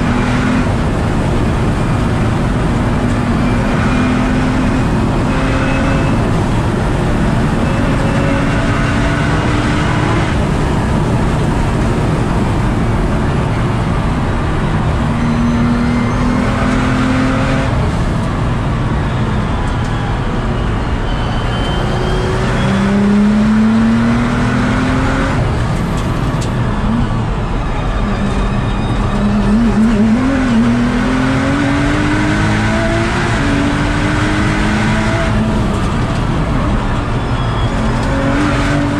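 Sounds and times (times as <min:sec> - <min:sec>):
car engine accelerating through gears: 0:00.0 - 0:27.4, 0:28.0 - 0:38.9
road and tyre noise: 0:00.0 - 0:38.9.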